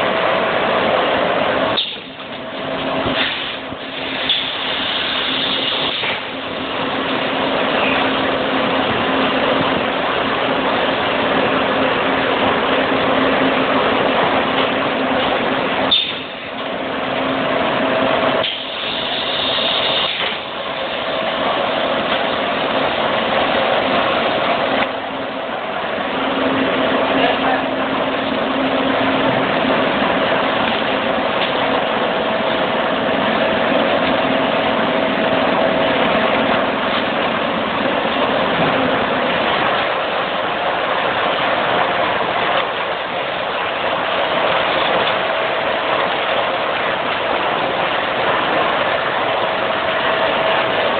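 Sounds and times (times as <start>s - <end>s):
packing machine mechanical rush: 0.0s - 50.9s.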